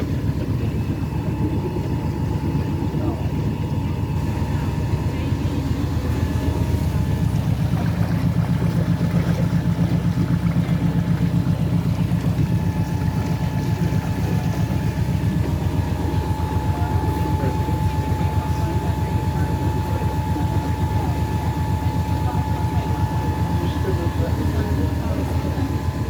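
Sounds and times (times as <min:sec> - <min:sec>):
boat engine throbbing: 0:00.0 - 0:26.0.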